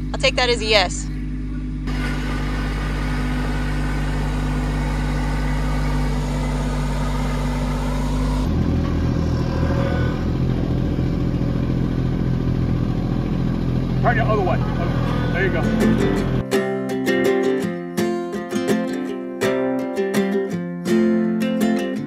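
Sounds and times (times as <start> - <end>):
tractor diesel engine running: 0.0 - 19.1.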